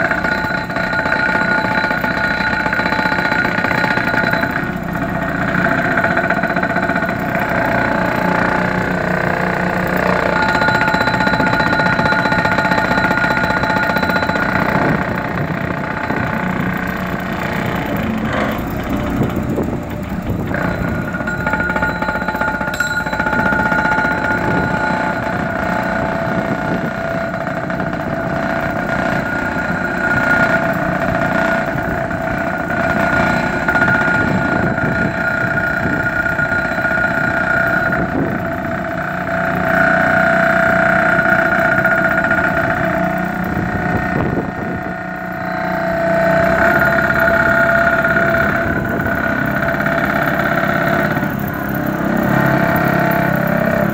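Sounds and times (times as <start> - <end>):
diesel engine running: 0.0 - 53.9
hydraulic whine: 0.0 - 53.9.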